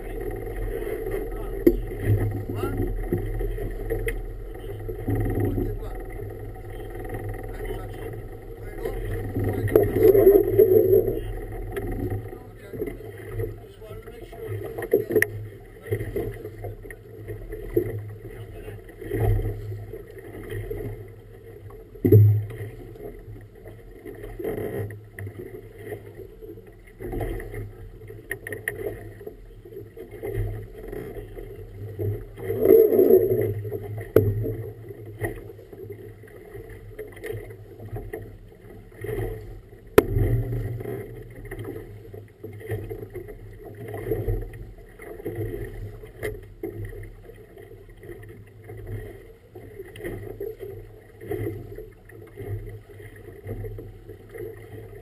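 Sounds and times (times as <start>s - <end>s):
water slapping against boat hull: 0.0s - 55.0s.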